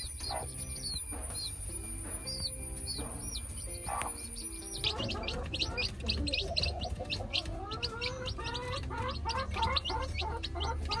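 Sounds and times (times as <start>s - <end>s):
chicks peeping: 0.0s - 11.0s
lower gliding chick calls: 0.0s - 11.0s.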